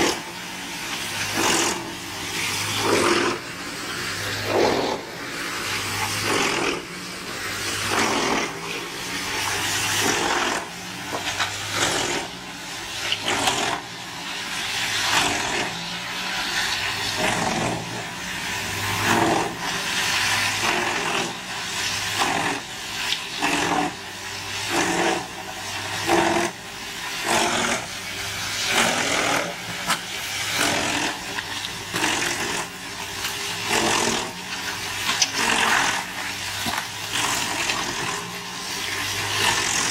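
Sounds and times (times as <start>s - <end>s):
wood chipper engine hum: 0.0s - 39.9s
wood chipper grinding wood: 0.0s - 39.9s.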